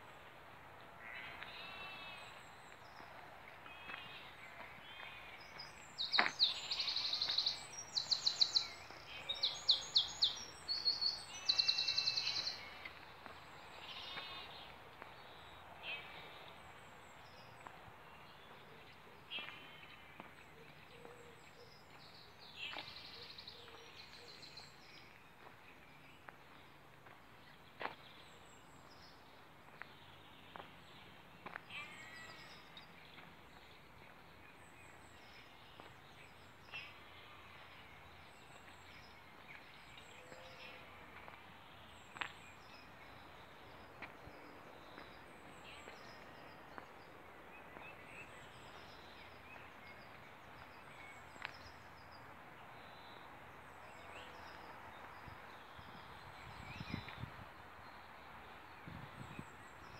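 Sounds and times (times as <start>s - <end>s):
small birds singing and chirping: 3.7s - 13.0s, 13.6s - 58.1s.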